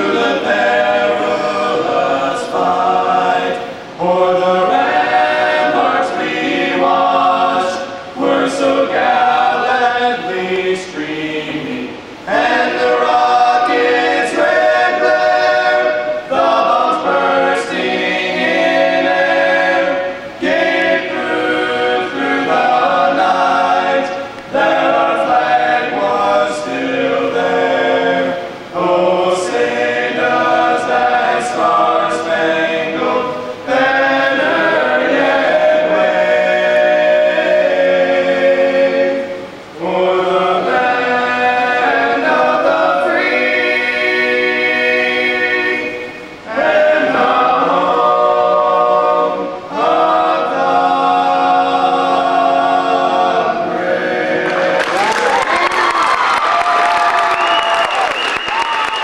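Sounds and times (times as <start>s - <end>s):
choir singing an anthem: 0.0s - 59.0s.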